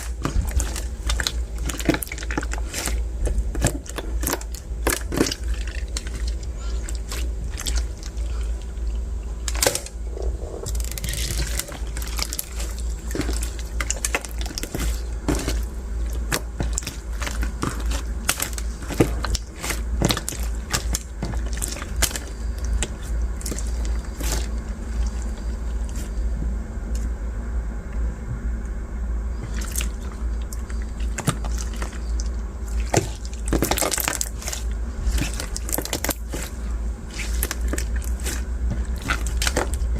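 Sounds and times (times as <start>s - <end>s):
slime squishing: 0.0s - 26.3s, 29.3s - 39.9s
steady low hum: 0.0s - 39.9s.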